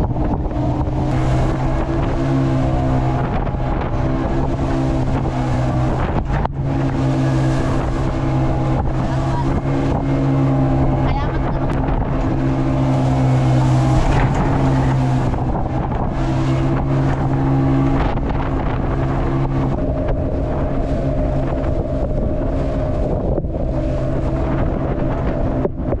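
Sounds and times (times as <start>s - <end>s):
boat engine droning: 0.0s - 26.0s
water rushing past hull: 0.0s - 26.0s
wind buffeting microphone: 0.0s - 26.0s.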